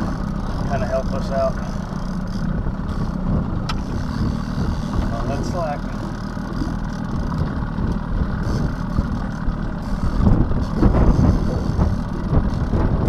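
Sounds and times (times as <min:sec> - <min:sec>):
outboard motor running: 0:00.0 - 0:13.0
wind rumbling on microphone: 0:00.0 - 0:13.0.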